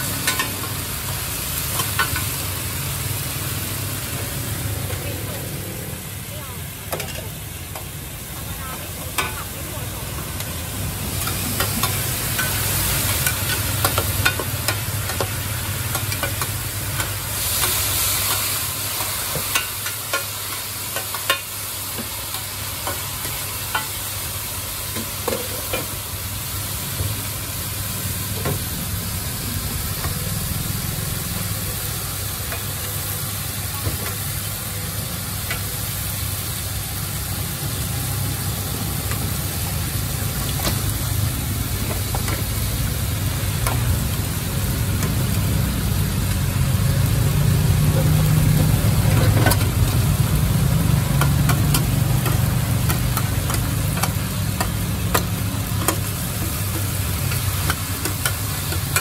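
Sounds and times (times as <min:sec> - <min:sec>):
noodles sizzling in oil: 0:00.0 - 0:59.0.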